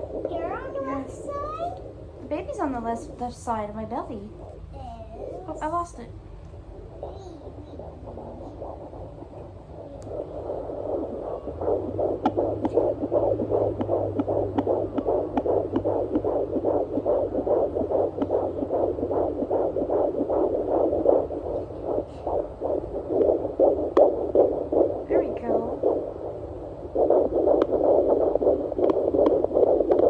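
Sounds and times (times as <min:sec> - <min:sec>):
fetal heartbeat through doppler speaker: 0:00.0 - 0:30.0.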